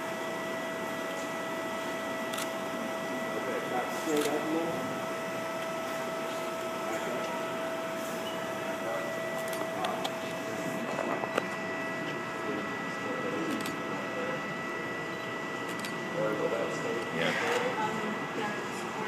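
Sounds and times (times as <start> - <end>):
mechanical hum with high whine: 0.0 - 19.0
faint murmured voices: 0.3 - 19.0.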